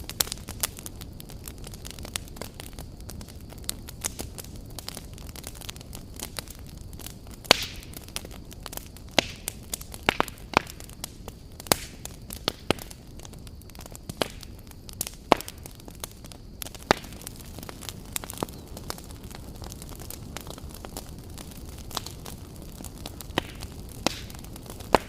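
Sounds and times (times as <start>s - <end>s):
low rumble of burning logs: 0.0s - 25.0s
wood fire crackling and popping: 0.0s - 25.0s.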